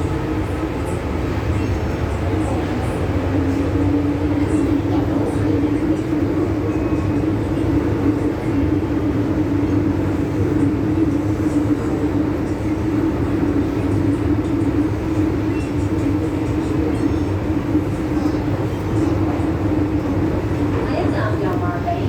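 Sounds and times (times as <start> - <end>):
steady train drone: 0.0 - 22.0
train wheels rumbling on rail: 0.0 - 22.0.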